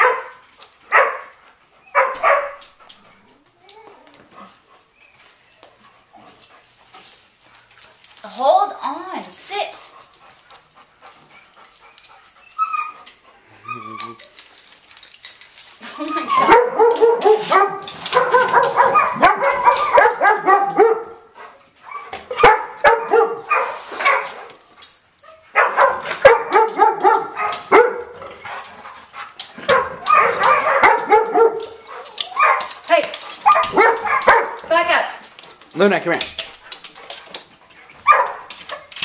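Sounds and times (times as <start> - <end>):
dogs barking and whining: 0.0 - 8.4, 9.5 - 39.0.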